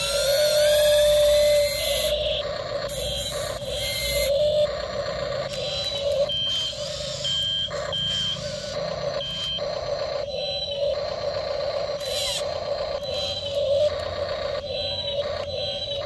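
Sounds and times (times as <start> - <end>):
high-pitched warning beeps: 0.0 - 16.0
mid-pitched hum: 0.0 - 16.0.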